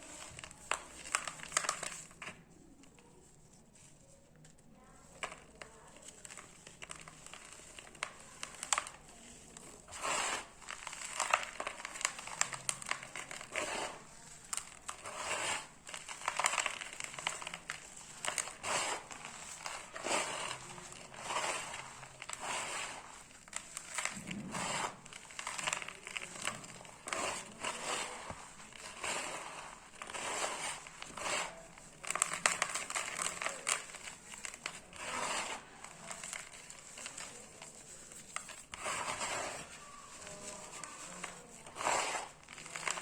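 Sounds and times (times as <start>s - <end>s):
cement blocks crunching: 6.3s - 43.0s.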